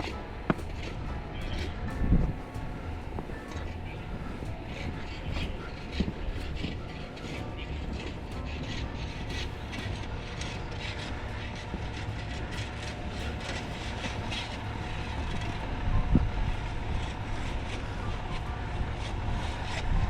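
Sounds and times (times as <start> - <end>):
footsteps crunching in snow: 0.0 - 16.2
steady low rumble: 0.0 - 20.0.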